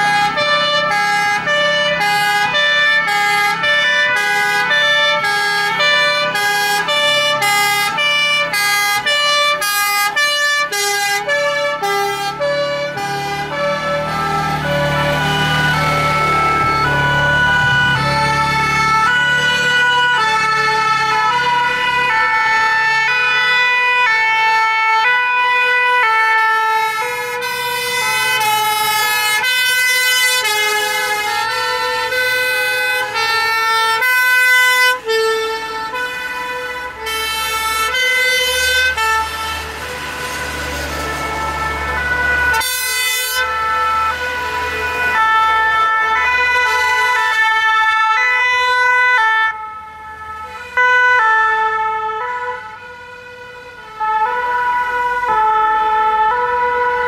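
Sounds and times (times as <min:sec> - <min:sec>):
truck engines running: 0:00.0 - 0:57.0
two-tone fire sirens: 0:00.0 - 0:57.0.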